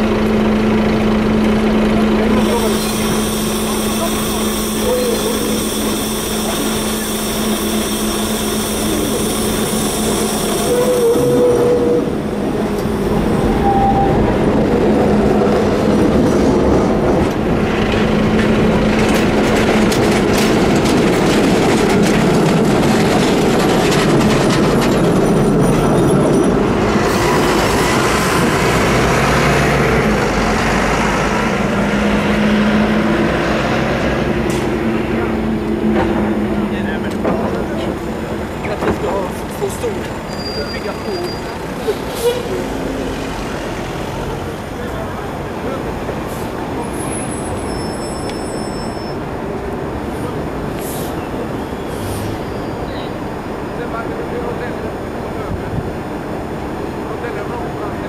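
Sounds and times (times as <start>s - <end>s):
bus engine running: 0.0s - 58.0s
tram wheels rumbling on rails: 0.0s - 58.0s.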